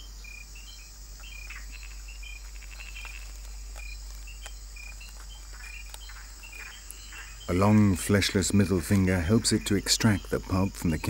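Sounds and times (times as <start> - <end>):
insect chorus hum and chirps: 0.0 - 11.0.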